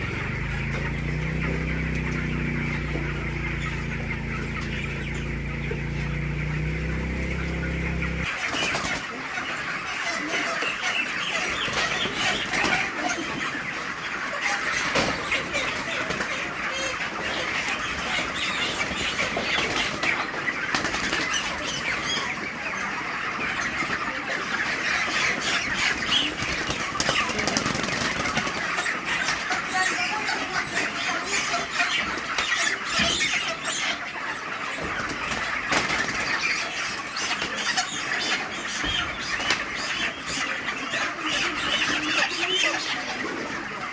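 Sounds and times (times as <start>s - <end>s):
chickens squealing and squawking: 0.0s - 43.9s.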